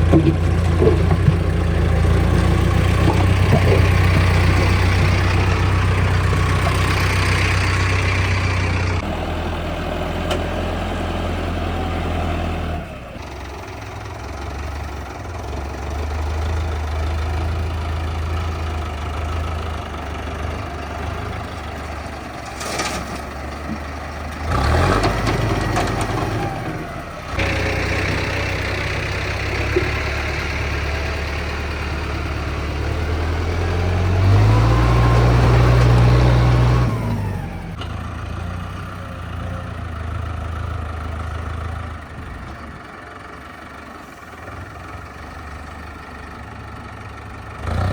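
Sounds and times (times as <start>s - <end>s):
tractor engines idling: 0.0s - 47.9s.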